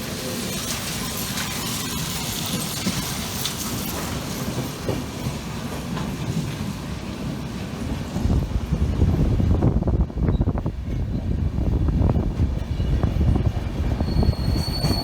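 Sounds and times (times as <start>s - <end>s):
train coach rumbling: 0.0s - 15.0s.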